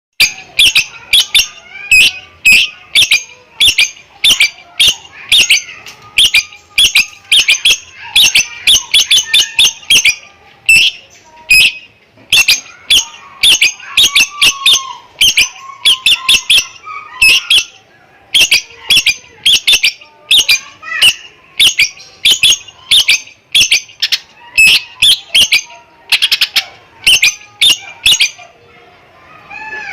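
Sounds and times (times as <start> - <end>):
bird singing high chirps: 0.2 - 28.5.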